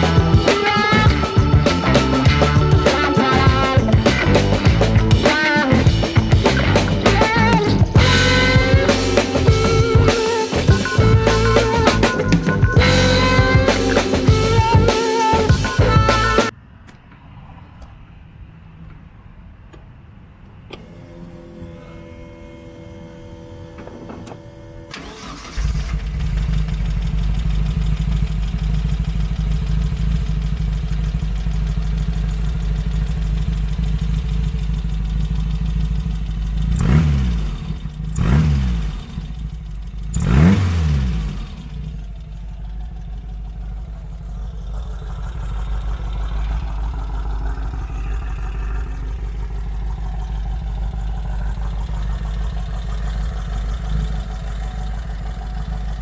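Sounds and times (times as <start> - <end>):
engine idling: 0.0 - 16.5, 20.7 - 56.0
engine revving: 0.0 - 16.6, 20.7 - 56.0.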